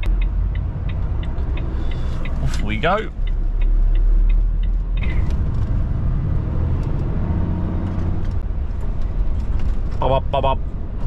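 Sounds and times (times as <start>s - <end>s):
diesel lorry engine rumbling: 0.0s - 11.0s.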